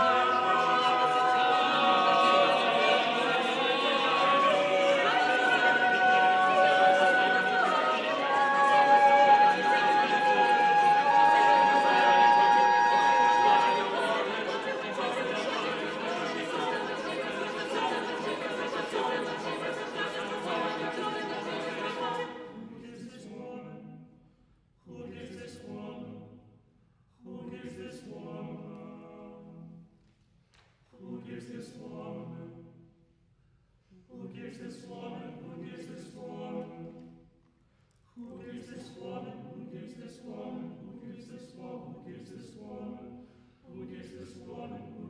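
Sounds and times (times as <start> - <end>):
choir singing a cappella: 0.0 - 24.2, 24.8 - 26.6, 27.2 - 29.9, 30.9 - 33.0, 33.9 - 37.3, 38.2 - 45.0.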